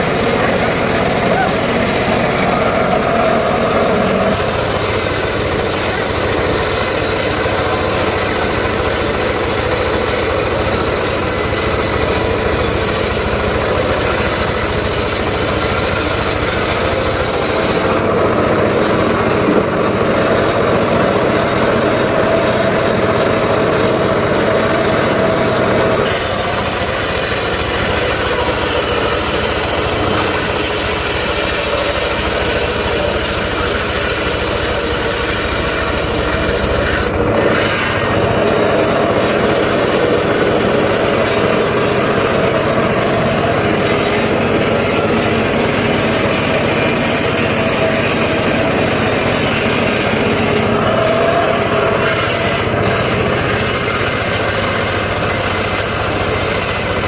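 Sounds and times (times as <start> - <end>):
engine-driven circular saw running: 0.0 - 57.0.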